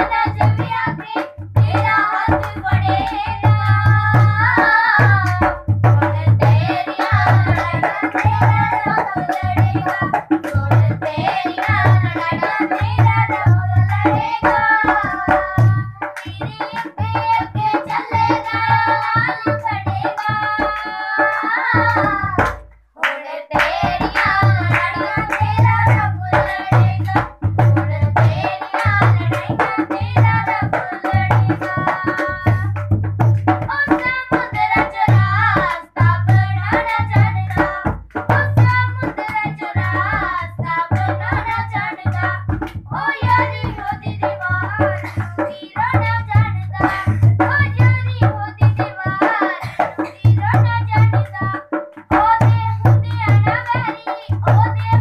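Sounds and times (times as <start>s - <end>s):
drums and percussion: 0.0s - 55.0s.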